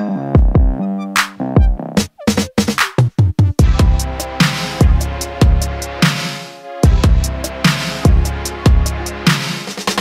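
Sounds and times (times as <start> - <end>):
electronic music: 0.3 - 10.0.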